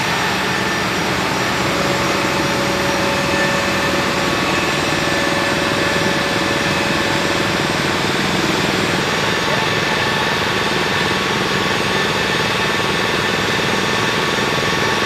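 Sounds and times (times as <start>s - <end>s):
constant whining tones: 0.0s - 15.0s
machinery engine drone: 0.0s - 15.0s.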